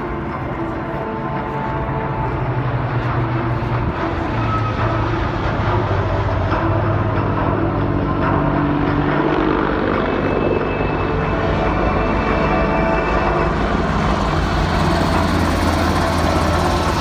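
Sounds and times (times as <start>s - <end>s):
aircraft engines droning: 0.0s - 17.0s.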